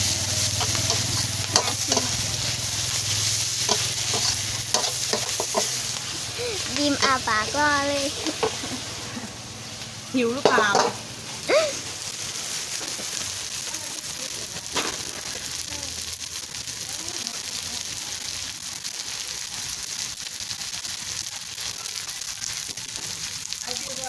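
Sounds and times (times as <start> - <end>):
noodles sizzling in a wok: 0.0 - 24.0.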